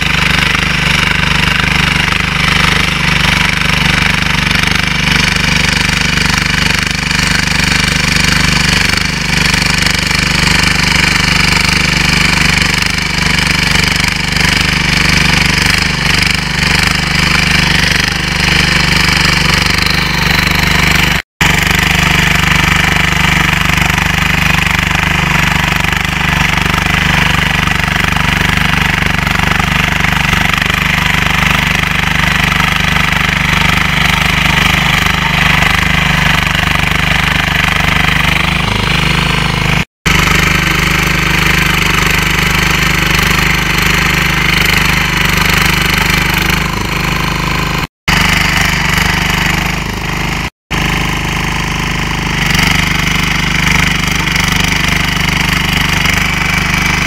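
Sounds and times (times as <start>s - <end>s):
rotary tiller engine running: 0.0s - 57.0s.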